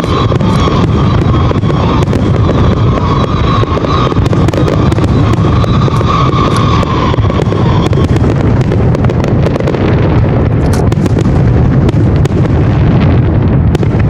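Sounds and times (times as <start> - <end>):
firework whistle: 0.0 - 14.0
fireworks booming and crackling: 0.0 - 14.0.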